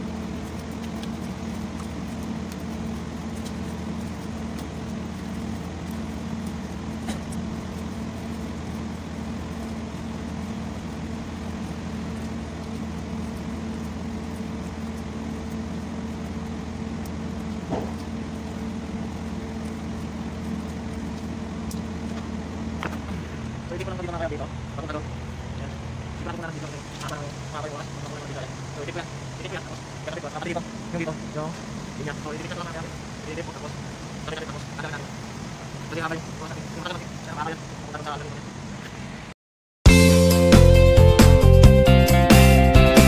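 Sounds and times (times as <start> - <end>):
low mechanical hum: 0.0 - 39.3.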